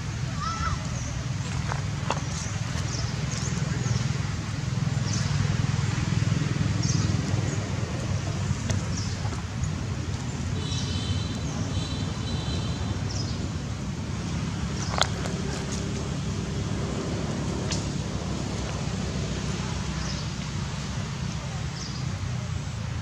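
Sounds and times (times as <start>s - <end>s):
low rumble of distant traffic: 0.0s - 23.0s.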